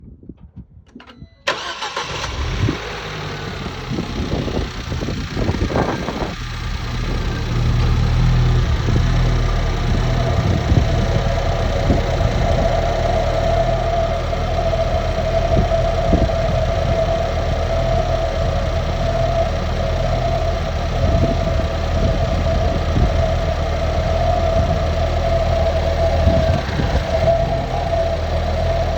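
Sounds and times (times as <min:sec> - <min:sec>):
car engine starting and idling: 0:01.0 - 0:28.9
whirling vacuum-like whine: 0:01.7 - 0:28.9.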